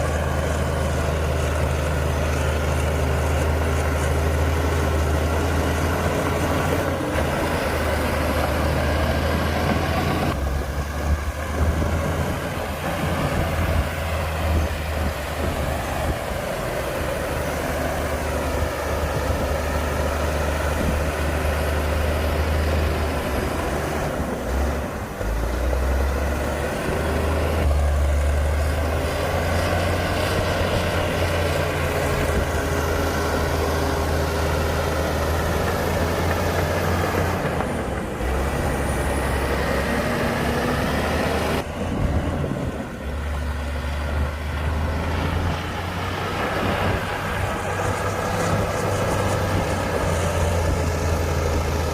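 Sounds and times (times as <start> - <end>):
heavy diesel engine under load: 0.0 - 51.9.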